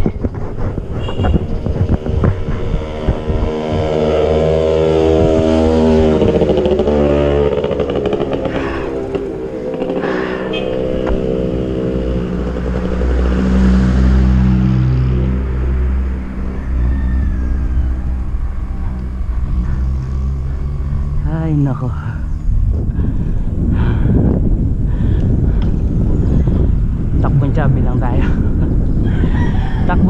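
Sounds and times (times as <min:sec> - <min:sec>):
motorcycles passing by: 0:00.0 - 0:30.0.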